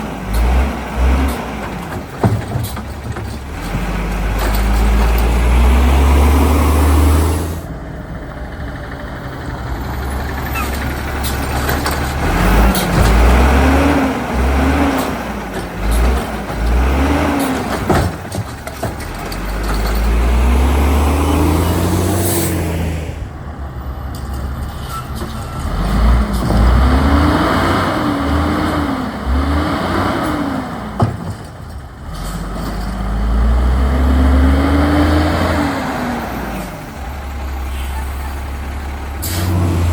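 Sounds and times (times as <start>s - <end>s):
truck engine accelerating: 0.0s - 39.9s.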